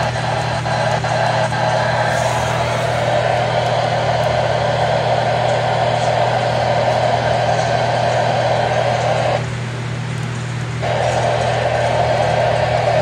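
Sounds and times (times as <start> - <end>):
radio static noise: 0.0 - 9.5, 10.8 - 13.0
low hum: 0.0 - 13.0.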